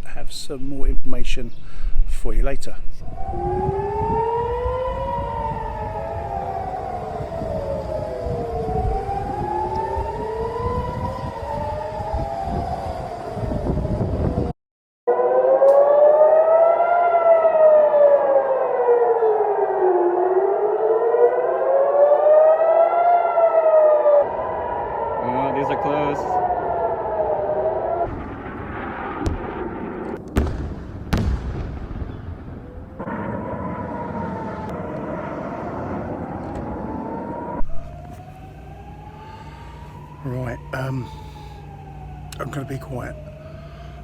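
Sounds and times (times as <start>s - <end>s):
air-raid siren wailing: 3.0s - 14.5s, 15.1s - 44.0s.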